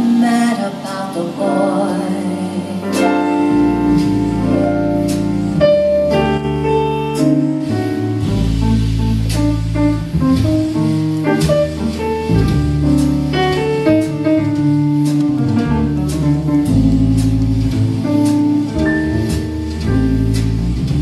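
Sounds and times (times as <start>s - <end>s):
drums on cymbals: 0.0s - 21.0s
walking bass: 0.0s - 21.0s.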